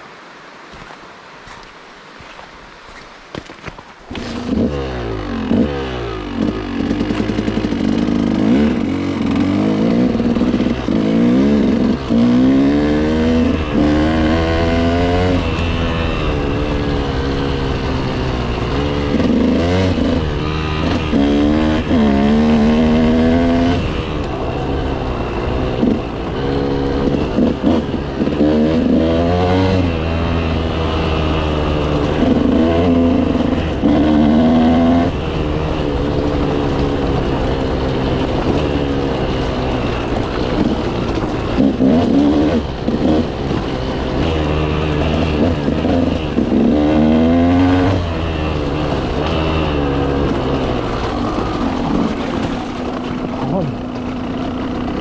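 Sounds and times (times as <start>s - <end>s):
motorcycle engine revving: 4.1s - 55.0s.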